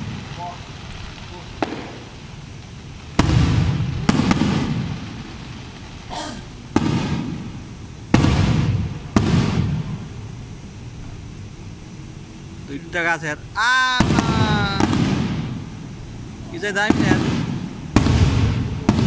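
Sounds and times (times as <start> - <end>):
firework shells bursting: 0.0 - 10.4, 12.7 - 19.0.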